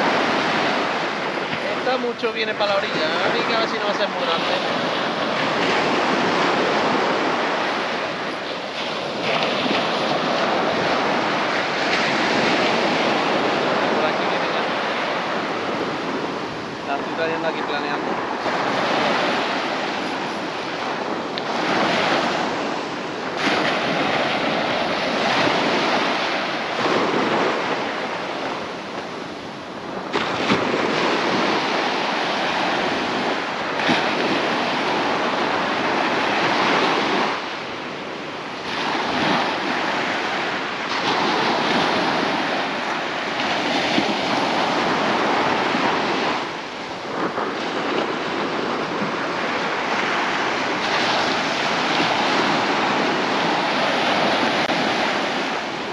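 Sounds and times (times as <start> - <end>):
small waves breaking on shore: 0.0 - 55.9.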